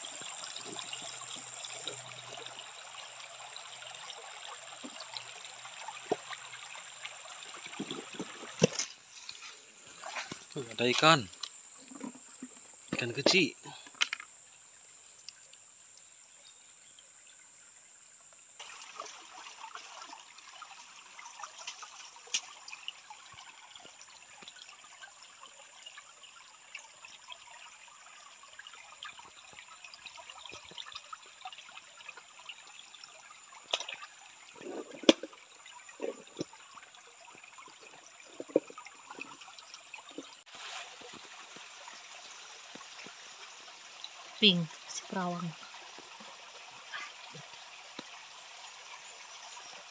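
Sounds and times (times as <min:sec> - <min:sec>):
stream water trickling over stones: 0:00.0 - 0:49.9.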